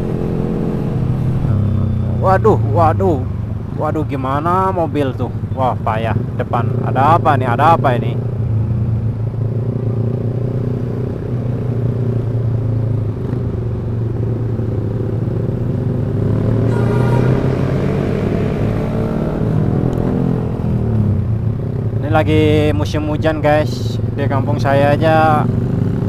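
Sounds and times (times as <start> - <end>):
motorcycle engine revving: 0.0 - 3.4, 6.1 - 26.0.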